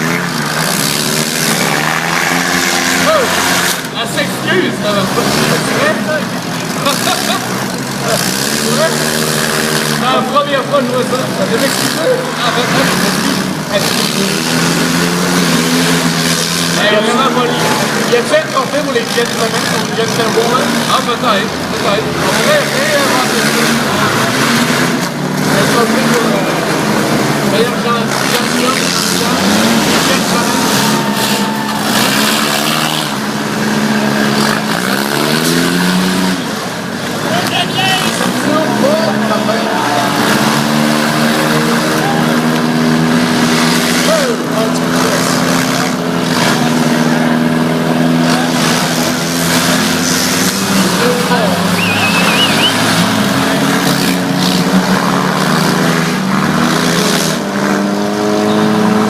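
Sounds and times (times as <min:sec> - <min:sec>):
car engines running and revving: 0:00.0 - 0:59.0
loud steady din: 0:00.0 - 0:59.0.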